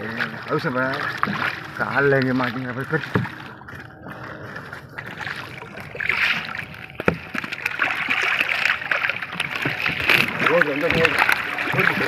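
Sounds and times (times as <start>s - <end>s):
water splashing against boat hull: 0.0s - 12.0s.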